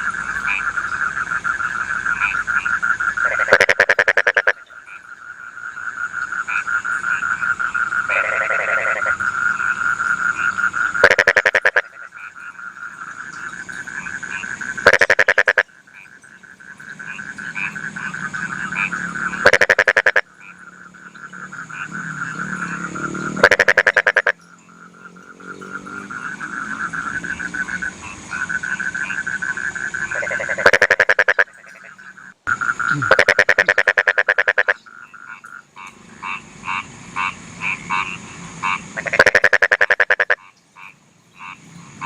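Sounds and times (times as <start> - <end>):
frogs trilling in chorus: 0.0 - 42.0
loud rattling frog croak: 0.0 - 42.0.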